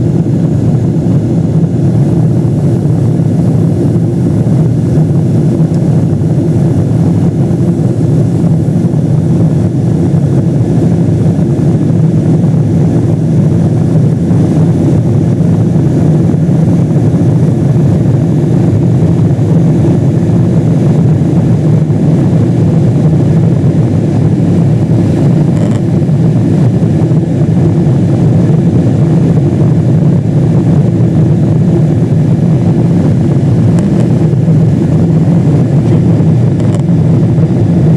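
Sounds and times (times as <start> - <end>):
jet engines rumbling in cabin: 0.0 - 37.9.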